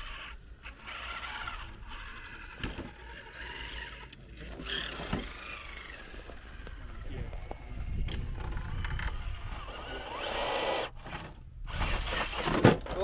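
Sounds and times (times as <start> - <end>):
electric motors whining: 0.0 - 12.6.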